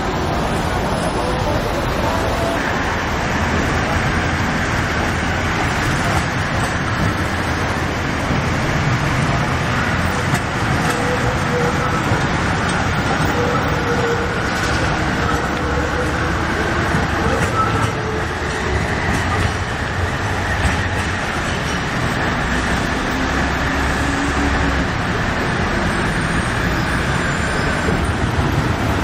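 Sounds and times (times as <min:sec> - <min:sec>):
street traffic noise: 0:00.0 - 0:29.0
tram rolling past: 0:00.0 - 0:29.0.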